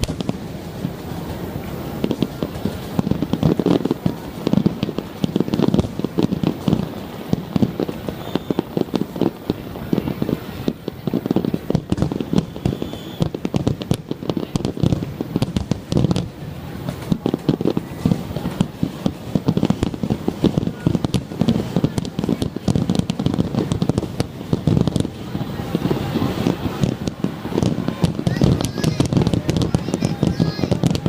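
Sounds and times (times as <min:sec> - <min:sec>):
fireworks booms and pops: 0:00.0 - 0:31.0
fireworks crackle: 0:00.0 - 0:31.0.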